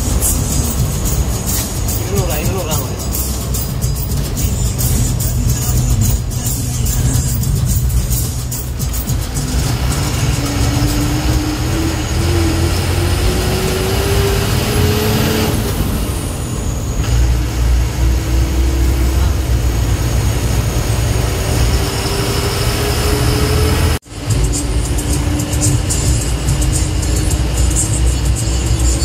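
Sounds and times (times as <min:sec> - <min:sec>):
diesel bus engine pulling: 0:00.0 - 0:29.0.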